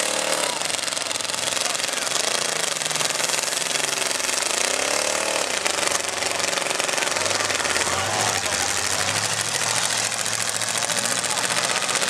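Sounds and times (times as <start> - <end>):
engine revving: 0.0 - 12.0
many car engines running: 0.0 - 12.0.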